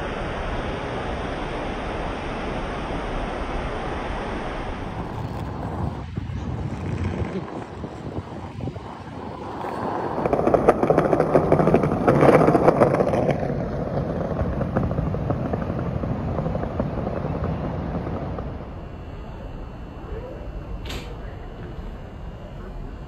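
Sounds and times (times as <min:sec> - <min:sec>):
city street rumble: 0:00.0 - 0:23.0.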